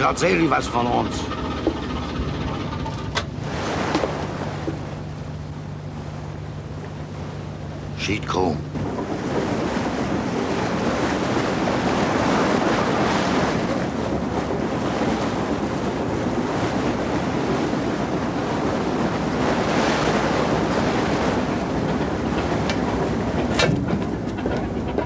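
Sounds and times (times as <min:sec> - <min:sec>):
water rushing between boats: 0:00.0 - 0:25.0
wind: 0:00.0 - 0:25.0.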